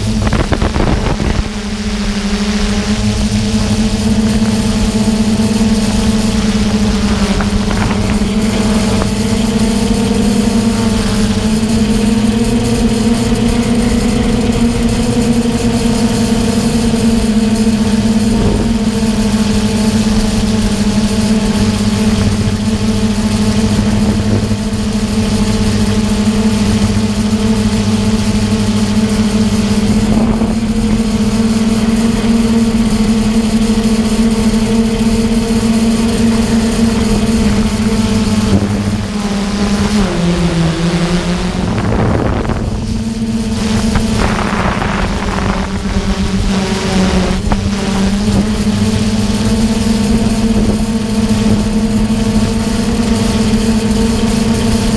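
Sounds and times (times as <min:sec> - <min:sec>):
drone motors and propellers humming: 0:00.0 - 0:54.9.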